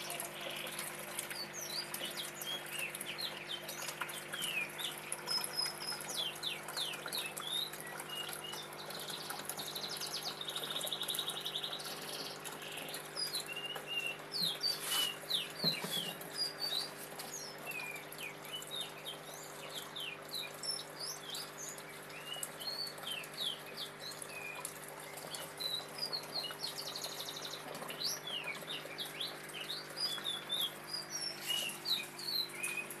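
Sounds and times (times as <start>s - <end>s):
filter humming: 0.0s - 33.0s
water trickling and bubbling: 0.0s - 33.0s.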